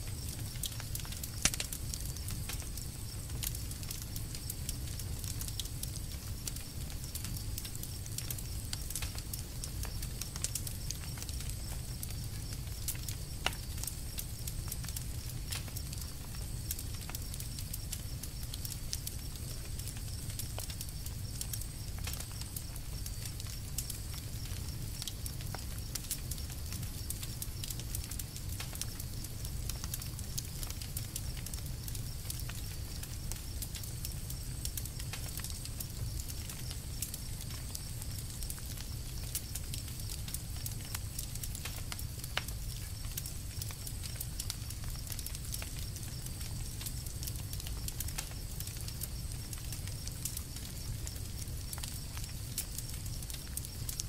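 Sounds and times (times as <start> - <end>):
campfire pops and snaps: 0.0 - 54.0
low rumble of burning wood: 0.0 - 54.0.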